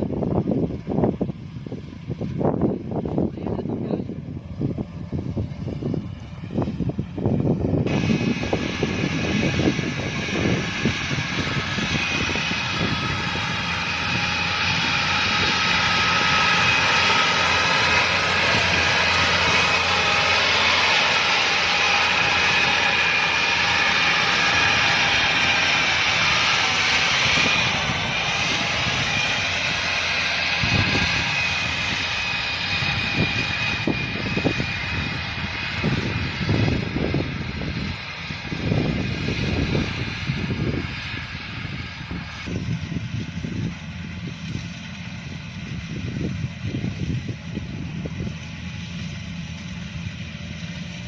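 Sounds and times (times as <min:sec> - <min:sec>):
combine harvester drone: 0:00.0 - 0:51.0
high machine whine: 0:00.0 - 0:51.0.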